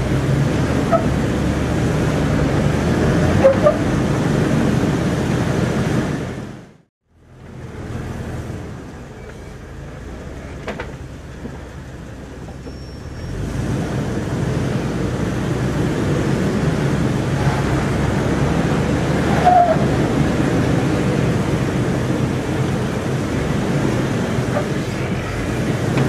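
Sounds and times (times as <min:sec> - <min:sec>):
off-road vehicle engine under load: 0:00.0 - 0:26.0.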